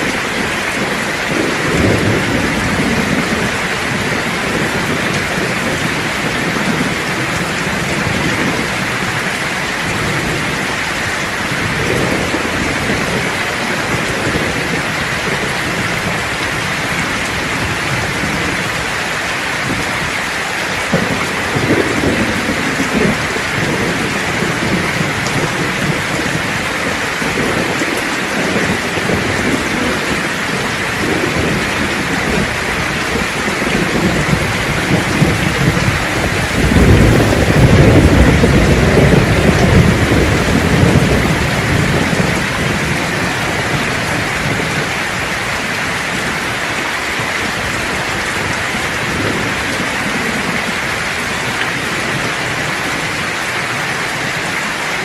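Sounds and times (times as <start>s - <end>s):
low rolling thunder: 0.0s - 20.1s, 20.7s - 53.3s
heavy rain hissing: 0.0s - 55.0s.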